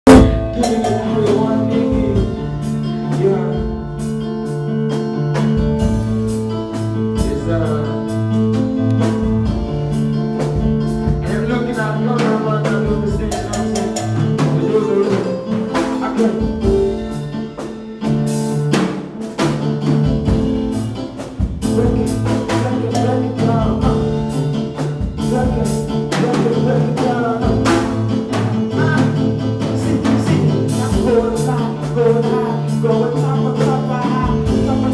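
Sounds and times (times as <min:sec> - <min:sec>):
drum kit beat: 0:00.0 - 0:34.9
live band playing: 0:00.0 - 0:34.9.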